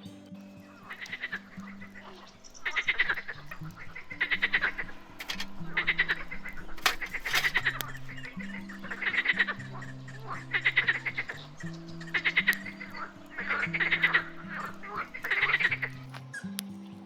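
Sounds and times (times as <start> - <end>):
soft background music: 0.0 - 17.0
frogs croaking: 0.6 - 16.5.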